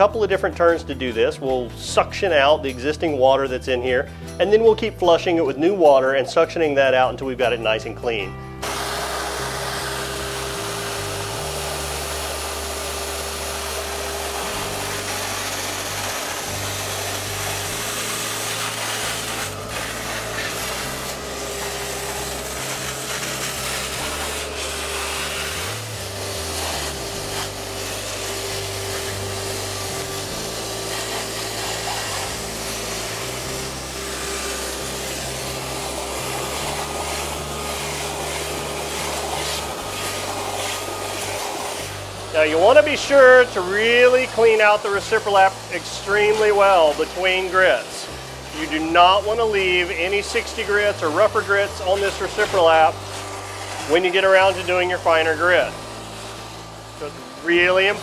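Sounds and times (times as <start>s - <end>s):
shop vac motor whine: 0.0s - 58.0s.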